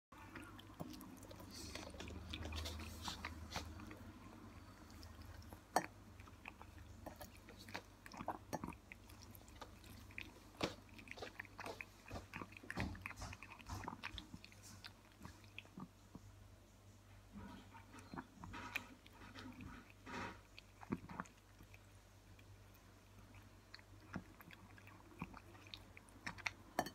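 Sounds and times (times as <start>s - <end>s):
cat chewing wet food: 0.2s - 26.9s.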